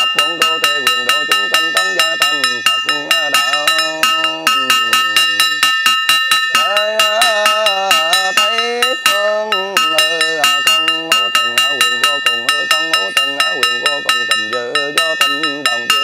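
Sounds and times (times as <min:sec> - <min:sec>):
monk chanting: 0:00.0 - 0:05.7, 0:06.5 - 0:16.0
small metal bell struck rapidly: 0:00.0 - 0:16.0.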